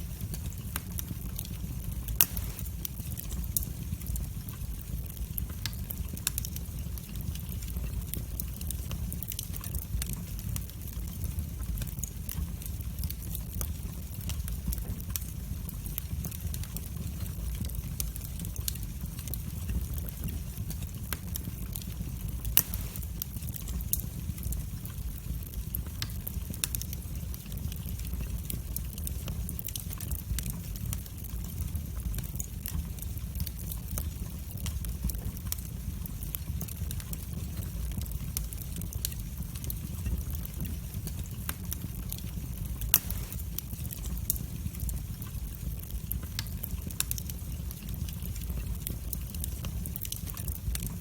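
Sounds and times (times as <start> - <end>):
fire crackling and popping: 0.0 - 51.0
flames rumbling: 0.0 - 51.0.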